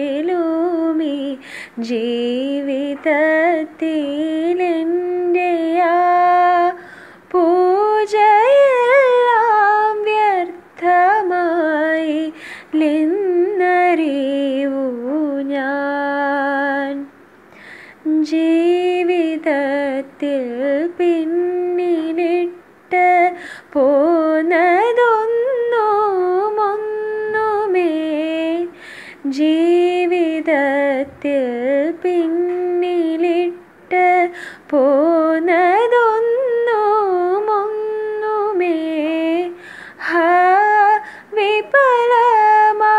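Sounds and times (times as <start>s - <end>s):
woman singing unaccompanied: 0.0s - 17.2s, 17.9s - 42.9s.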